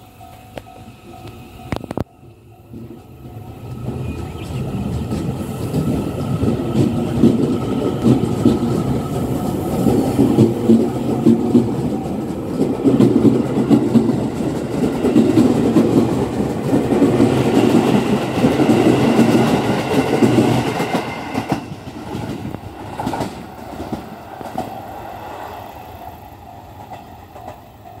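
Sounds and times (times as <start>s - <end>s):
steady train whine: 0.0s - 28.0s
train wheels rumbling on rails: 0.0s - 28.0s.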